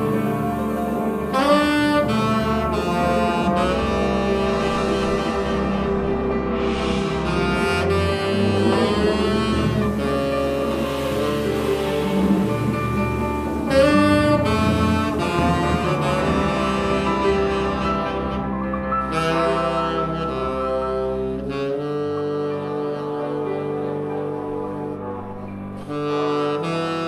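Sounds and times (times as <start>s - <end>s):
bass trumpet: 0.0s - 27.0s
double bass: 0.0s - 27.0s
jazz band playing: 0.0s - 27.0s
saxophone: 0.0s - 27.0s.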